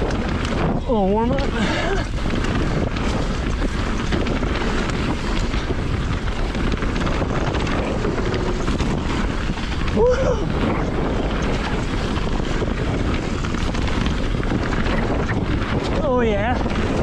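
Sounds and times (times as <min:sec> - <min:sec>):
bike clicks and rattles: 0:00.0 - 0:17.0
bike tyre noise: 0:00.0 - 0:17.0
wind rush on microphone: 0:00.0 - 0:17.0.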